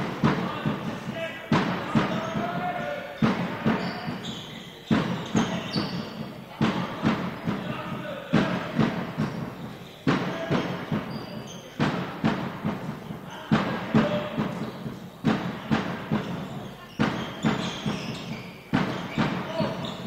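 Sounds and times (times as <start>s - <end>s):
ball bouncing on hall floor: 0.0s - 20.0s
shoes squeaking: 0.0s - 20.0s.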